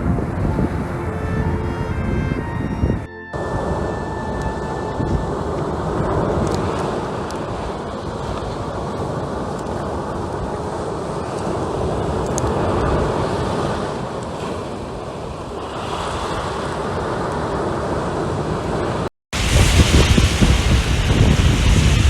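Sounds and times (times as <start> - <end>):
wind rushing over microphone: 0.0 - 22.0
sea waves washing on shore: 3.4 - 22.0.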